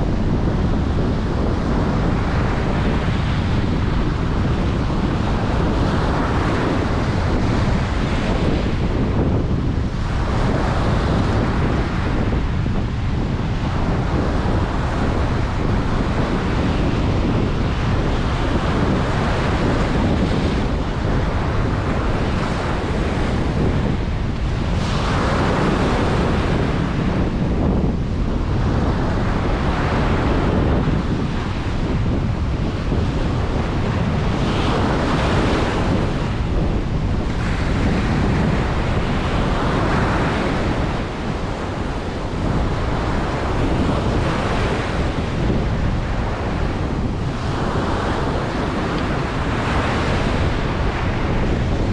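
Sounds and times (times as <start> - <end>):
ocean surf breaking: 0.0 - 51.9
wind rumbling on microphone: 0.0 - 51.9.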